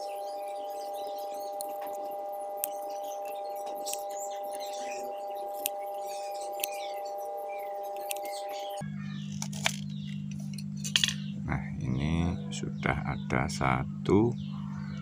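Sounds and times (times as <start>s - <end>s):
two-note hum: 0.0s - 15.0s.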